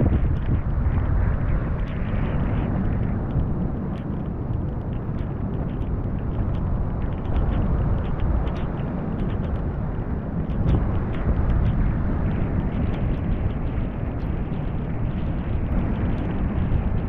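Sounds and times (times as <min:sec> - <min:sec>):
rain ticking on camera: 0:00.0 - 0:17.0
wind buffeting microphone: 0:00.0 - 0:17.0.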